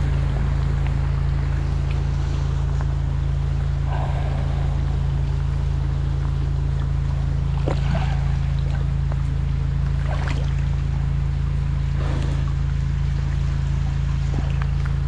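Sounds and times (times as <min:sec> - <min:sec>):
drain jetter engine and pump droning: 0:00.0 - 0:15.0
rain falling on water: 0:00.0 - 0:15.0.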